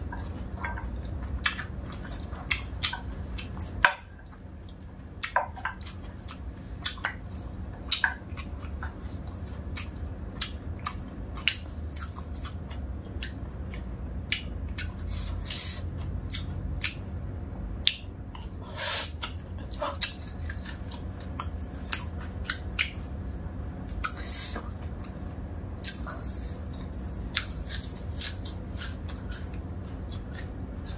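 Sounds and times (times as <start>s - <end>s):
chewing and wet mouth sounds: 0.0s - 17.1s, 17.8s - 30.9s
low steady hum: 0.0s - 30.9s.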